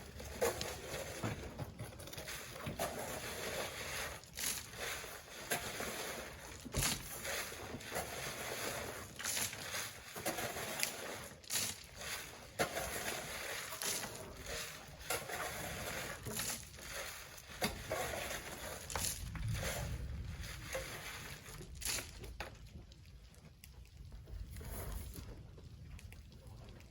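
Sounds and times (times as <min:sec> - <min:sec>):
shovel scraping wet sand: 0:00.0 - 0:22.3
water-like wash noise: 0:00.0 - 0:23.6.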